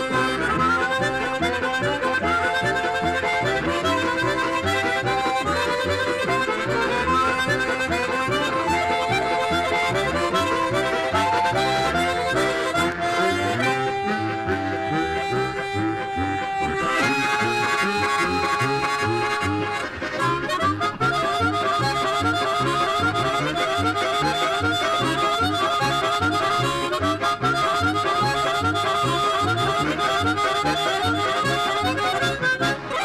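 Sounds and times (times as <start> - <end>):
instrumental music: 0.0 - 33.0.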